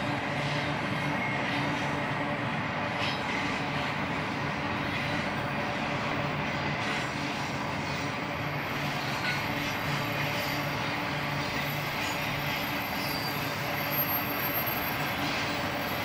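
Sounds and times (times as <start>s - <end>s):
freight cars rumbling on rails: 0.0s - 16.0s.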